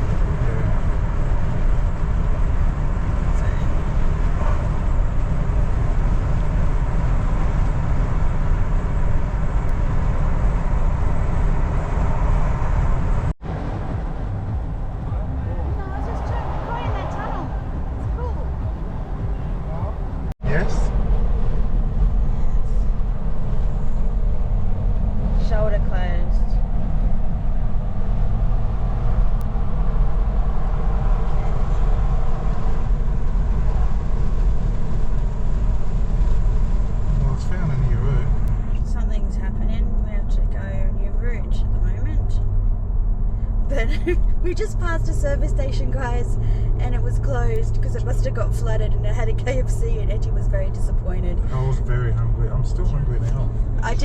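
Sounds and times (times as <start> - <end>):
tyre and engine rumble: 0.0 - 54.0.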